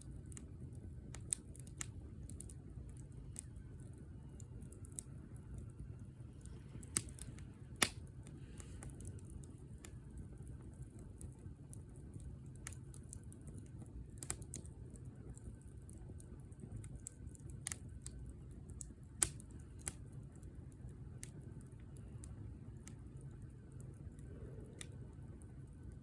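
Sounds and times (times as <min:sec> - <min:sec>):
low steady rumble: 0:00.0 - 0:26.0
wood fire crackling: 0:00.0 - 0:26.0.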